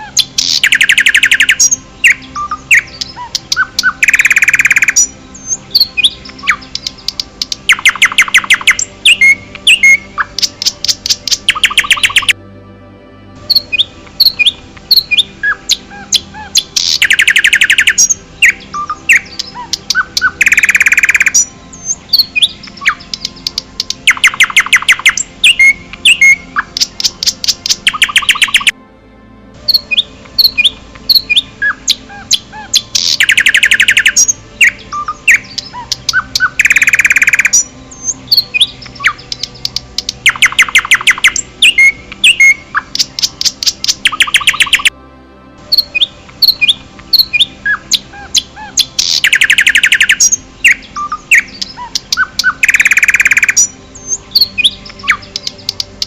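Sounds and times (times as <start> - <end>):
bird trills: 0.0 - 12.4, 13.5 - 28.7, 29.6 - 44.9, 45.7 - 56.0
birds chirping: 0.0 - 12.4, 13.4 - 28.7, 29.6 - 44.9, 45.7 - 56.0.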